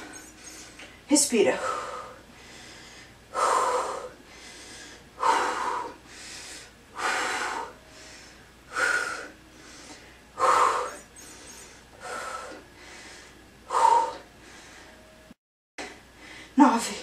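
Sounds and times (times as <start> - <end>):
woman breathing hard: 1.6 - 16.6.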